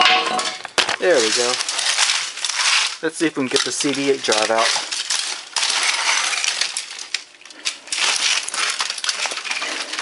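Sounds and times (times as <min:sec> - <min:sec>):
metal and plastic crunching: 0:00.0 - 0:10.0.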